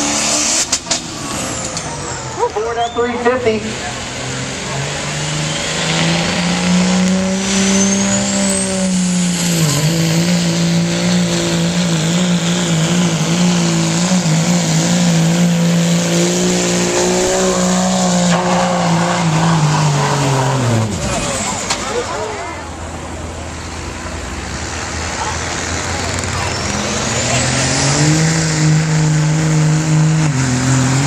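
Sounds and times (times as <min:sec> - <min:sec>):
diesel pickup engine at high revs: 0:00.0 - 0:31.0.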